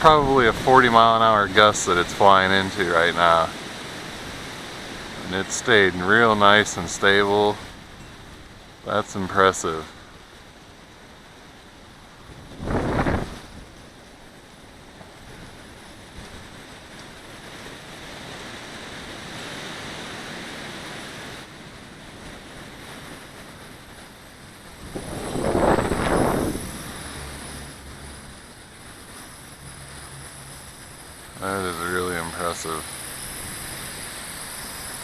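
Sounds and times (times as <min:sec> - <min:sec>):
wind gusts buffeting microphone: 0:00.0 - 0:35.0
wind rushing over microphone: 0:00.0 - 0:35.0.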